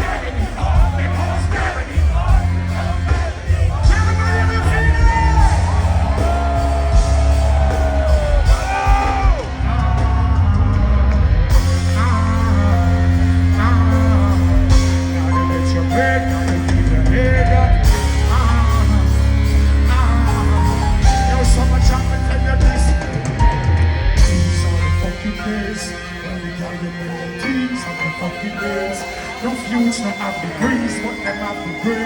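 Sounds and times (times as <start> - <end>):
live band playing loud: 0.0 - 32.0
person singing: 0.0 - 32.0.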